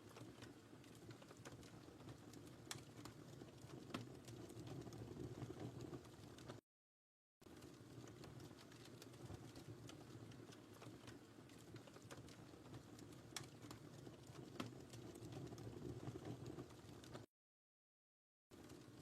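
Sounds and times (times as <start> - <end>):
burning wood crackling and popping: 0.0 - 6.6, 7.4 - 17.3, 18.6 - 19.0
low rumble of flames: 0.0 - 6.6, 7.4 - 17.3.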